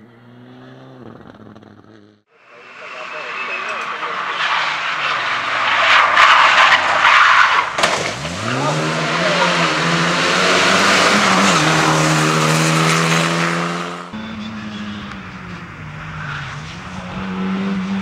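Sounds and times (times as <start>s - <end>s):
racing car engine revving: 0.0s - 18.0s
tyres skidding: 0.0s - 18.0s.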